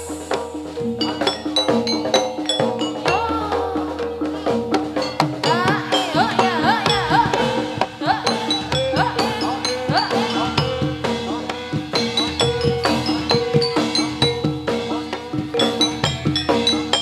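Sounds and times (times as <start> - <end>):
quick drum strokes: 0.0 - 17.0
struck bronze keyed instruments: 0.0 - 17.0
wavering gliding melody: 0.0 - 17.0.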